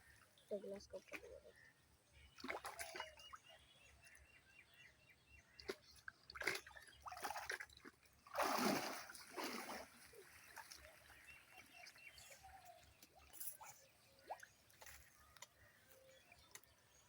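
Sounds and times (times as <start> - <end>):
pond water splashing and dripping: 0.0 - 17.0.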